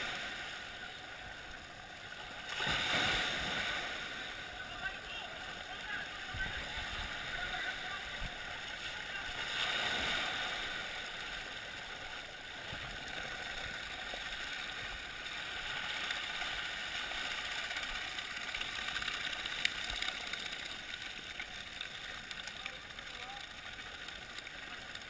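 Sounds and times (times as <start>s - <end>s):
surf washing up sand: 0.0s - 25.0s.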